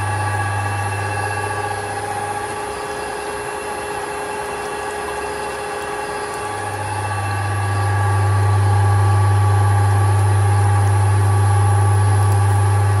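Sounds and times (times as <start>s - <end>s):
oil press mechanical hum: 0.0s - 13.0s.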